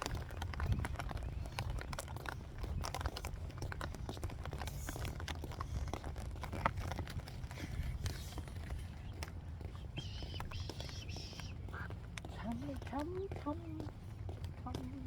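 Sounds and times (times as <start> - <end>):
rain pattering on an umbrella: 0.0 - 15.0.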